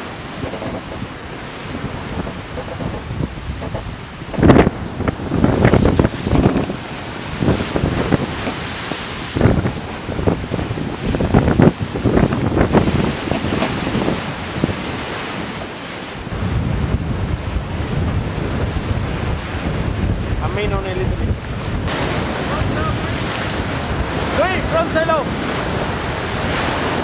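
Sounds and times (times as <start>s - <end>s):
water crashing along boat hull: 0.0s - 27.0s
wind buffeting microphone: 0.0s - 27.0s.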